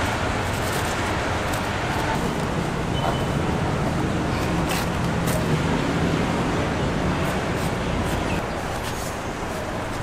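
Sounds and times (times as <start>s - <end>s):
low traffic hum: 0.0s - 10.0s.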